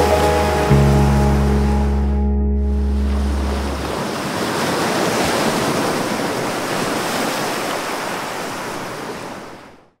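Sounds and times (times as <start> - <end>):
ocean surf washing in: 0.0 - 9.8.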